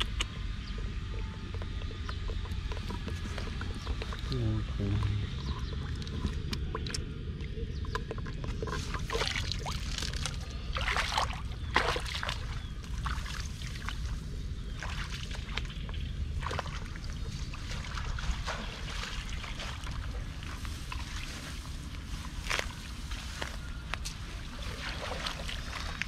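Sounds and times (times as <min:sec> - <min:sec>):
steady low rumble: 0:00.0 - 0:26.0
water splashing and sloshing: 0:05.0 - 0:26.0.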